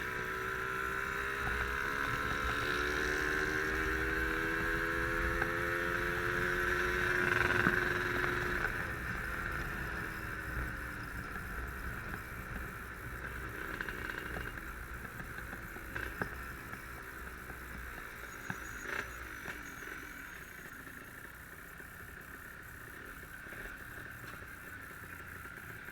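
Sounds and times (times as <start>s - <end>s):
two-stroke motorcycle engine: 0.0s - 25.9s.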